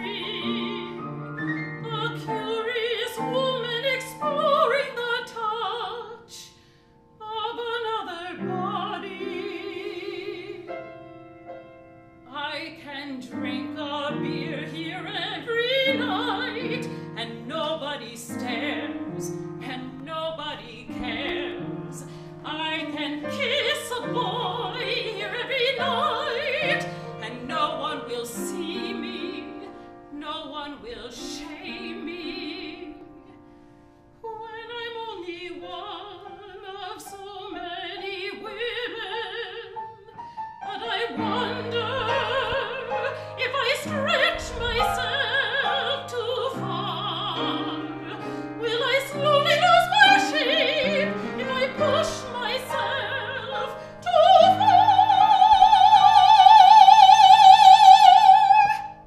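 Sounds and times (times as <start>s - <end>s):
operatic singing: 0.0s - 6.5s, 12.3s - 33.3s, 34.3s - 59.0s
piano accompaniment: 0.0s - 59.0s.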